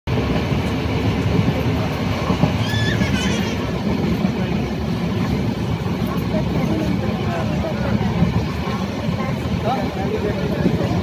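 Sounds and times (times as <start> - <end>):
train wheels rumbling on rails: 0.1 - 11.0.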